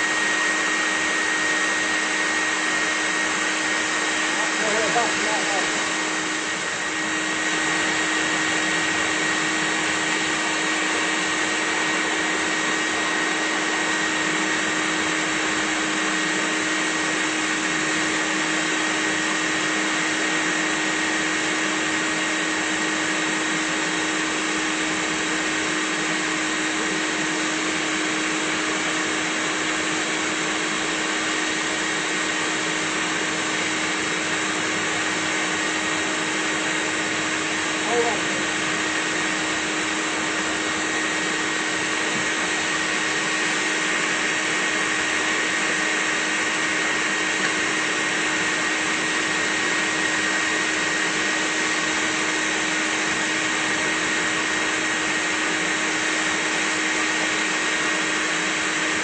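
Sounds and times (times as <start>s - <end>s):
vacuum motor running: 0.0s - 59.0s.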